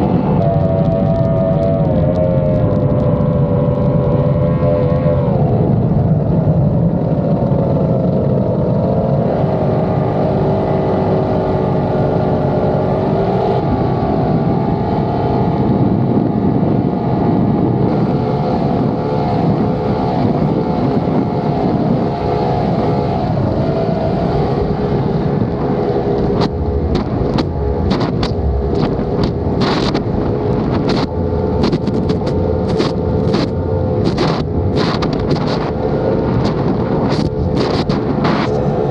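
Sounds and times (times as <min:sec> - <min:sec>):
outboard engines running hard: 0:00.0 - 0:38.9
wind buffeting microphone: 0:00.0 - 0:38.9.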